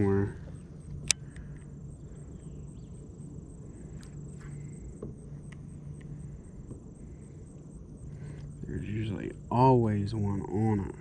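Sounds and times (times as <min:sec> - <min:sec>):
insect trilling: 0:00.0 - 0:11.0
low steady hum: 0:00.0 - 0:11.0
pulsing chirp: 0:00.0 - 0:11.0.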